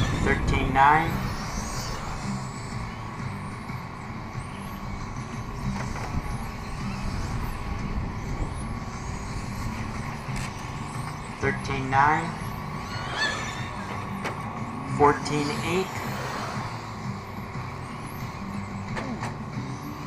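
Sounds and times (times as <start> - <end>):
toy car motors whining: 0.0 - 20.0.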